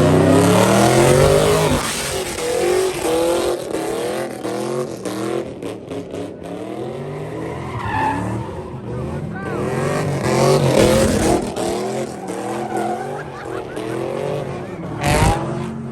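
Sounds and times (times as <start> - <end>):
tires hissing and squealing: 0.0 - 5.6, 6.3 - 15.6
car engine revving hard: 0.0 - 15.9.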